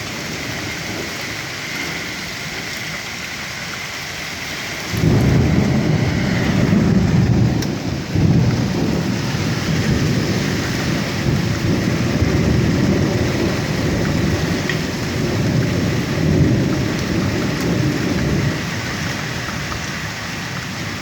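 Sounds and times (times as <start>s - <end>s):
hail and rain falling: 0.0s - 21.0s
loud low wind rumble: 0.0s - 21.0s.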